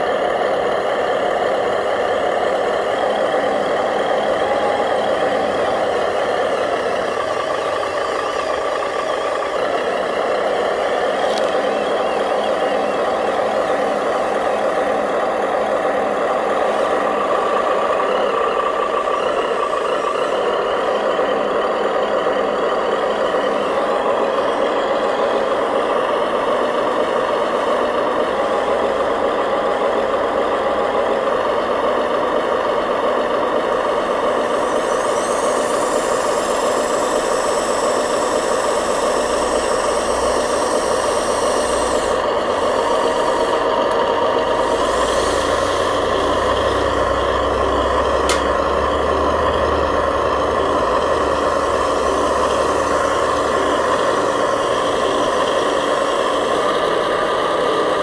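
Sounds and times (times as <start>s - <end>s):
high motor whine: 0.0s - 58.0s
toy dump truck engine noise: 0.0s - 58.0s.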